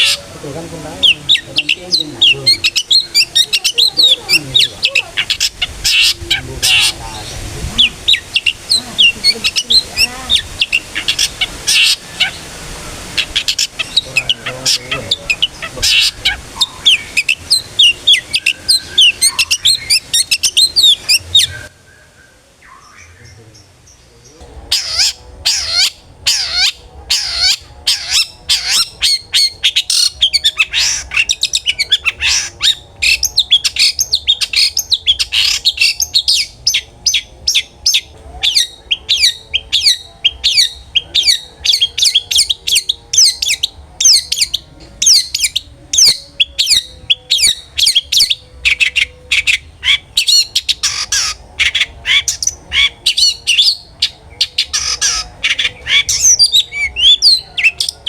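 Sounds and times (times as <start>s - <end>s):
bird chattering song: 0.0s - 12.5s, 13.1s - 21.7s, 22.6s - 58.0s.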